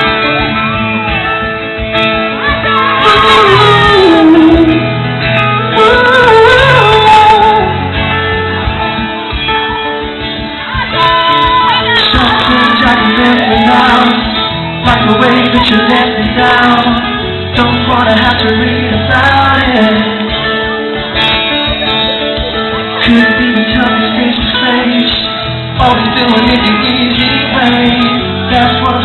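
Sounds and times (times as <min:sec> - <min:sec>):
pop-rock band playing: 0:00.0 - 0:29.0.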